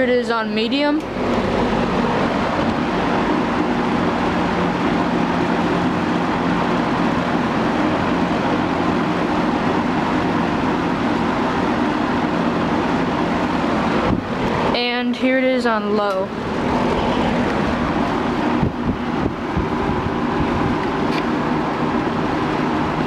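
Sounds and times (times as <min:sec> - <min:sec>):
box fan running: 0:00.0 - 0:23.0.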